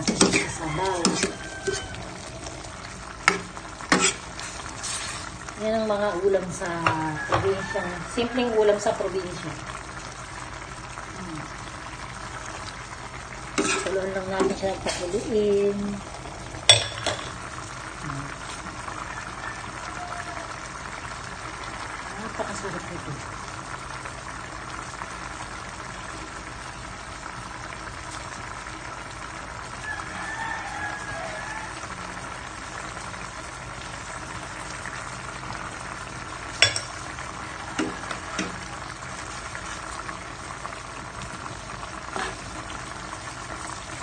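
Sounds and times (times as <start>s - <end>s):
broth bubbling in a pan: 0.0s - 44.0s.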